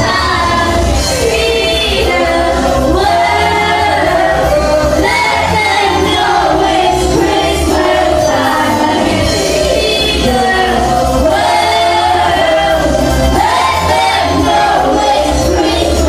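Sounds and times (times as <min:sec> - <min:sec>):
voices singing pop song: 0:00.0 - 0:16.0.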